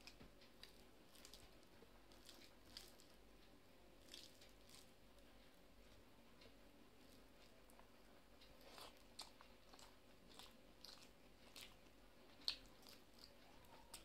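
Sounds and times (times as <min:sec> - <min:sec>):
fingers kneading rice on plate: 0:00.0 - 0:14.0.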